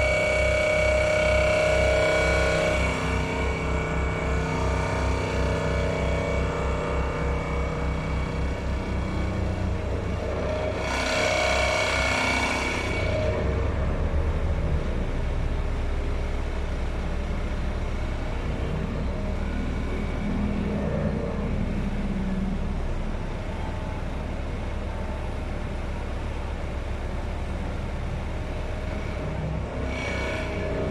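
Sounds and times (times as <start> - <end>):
heavy machinery rumble: 0.0 - 30.9.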